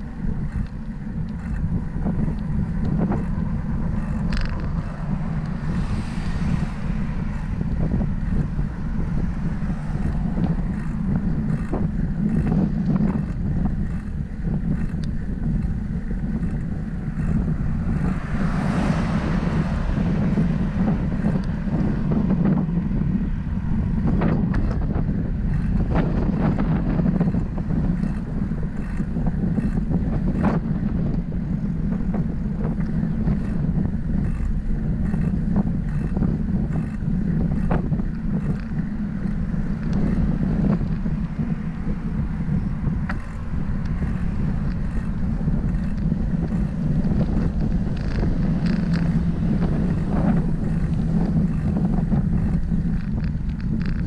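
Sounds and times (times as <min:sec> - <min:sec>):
wind buffeting microphone: 0:00.0 - 0:54.0
small clicks and rattles: 0:00.2 - 0:05.6, 0:06.4 - 0:18.2, 0:24.0 - 0:31.2, 0:32.1 - 0:54.0.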